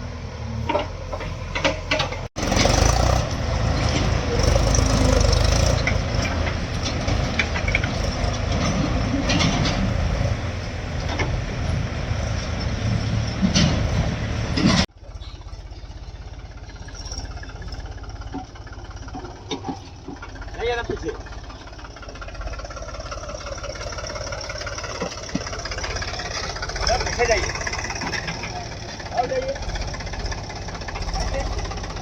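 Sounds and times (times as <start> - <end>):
heavy diesel machinery running: 0.0 - 32.0
quieter engine running: 0.0 - 32.0
clanks and knocks: 0.6 - 14.9, 16.7 - 32.0.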